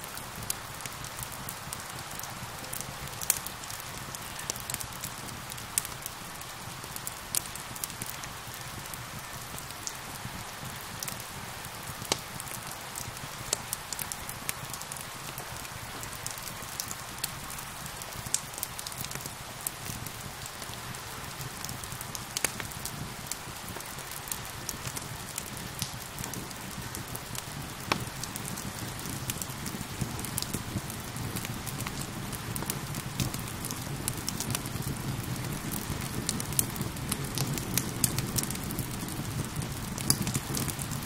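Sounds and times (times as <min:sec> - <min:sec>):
steady rain: 0:00.0 - 0:41.0
wood fire crackling and popping: 0:00.0 - 0:41.0.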